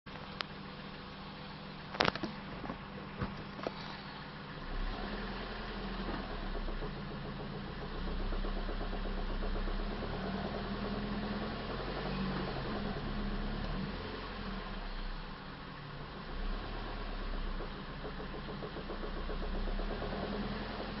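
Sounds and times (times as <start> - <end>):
engine idling with knock: 1.8 - 21.0.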